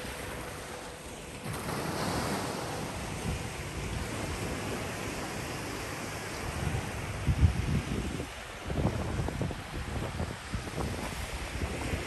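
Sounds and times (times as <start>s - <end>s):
small waves breaking on sand: 0.0s - 12.0s
wind buffeting microphone: 1.4s - 12.0s.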